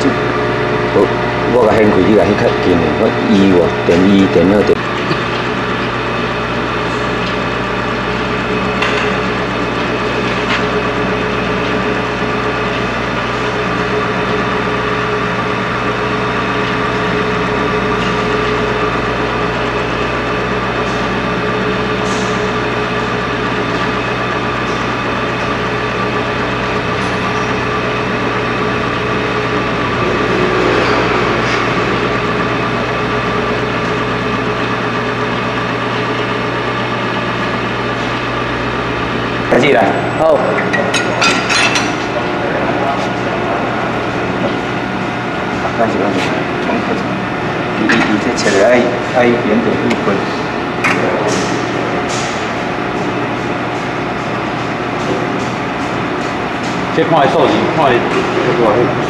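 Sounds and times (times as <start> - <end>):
welding machine hum: 0.0 - 59.0.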